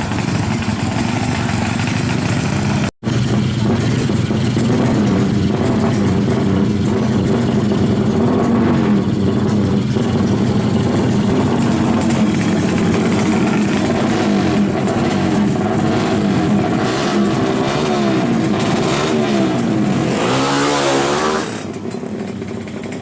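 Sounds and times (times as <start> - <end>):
two-stroke motorcycle engine idling: 0.0 - 23.0.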